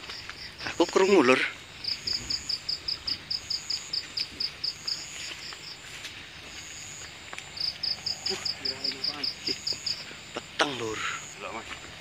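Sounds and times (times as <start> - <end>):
insect chirping: 0.0 - 12.0
insect buzzing: 0.1 - 11.9.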